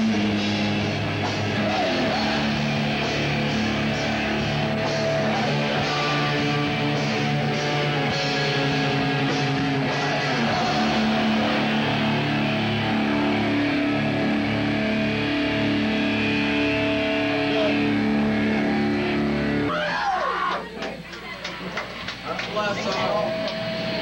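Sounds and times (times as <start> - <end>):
drums: 0.0 - 24.0
electric guitar: 0.0 - 24.0.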